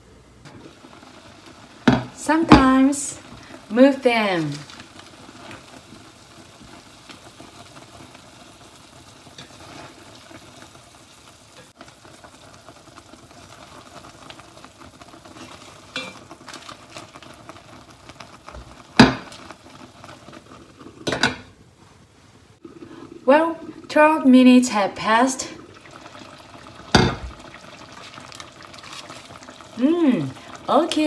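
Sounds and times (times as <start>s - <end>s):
pot bubbling and sizzling: 0.0s - 31.0s.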